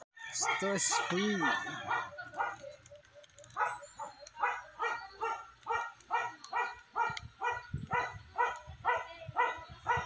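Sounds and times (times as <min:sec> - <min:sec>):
animal calling: 0:00.4 - 0:08.6.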